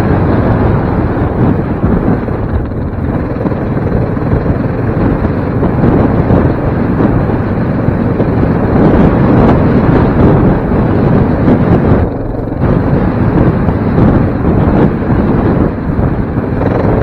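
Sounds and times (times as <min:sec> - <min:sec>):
quad bike engine running: 0:00.0 - 0:17.0
wind buffeting microphone: 0:00.0 - 0:17.0.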